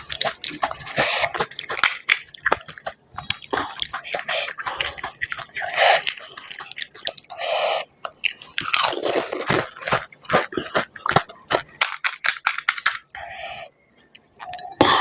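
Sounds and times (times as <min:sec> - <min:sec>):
crunchy food being chewed: 0:00.0 - 0:13.3.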